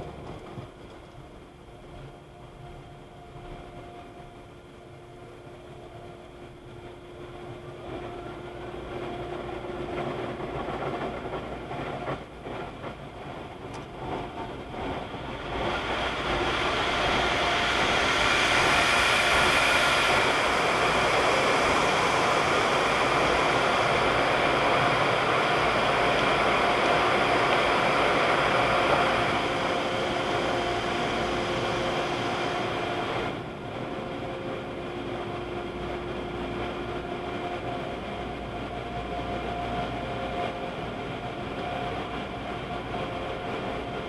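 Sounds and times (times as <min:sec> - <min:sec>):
car wash motor hum: 0:00.0 - 0:44.0.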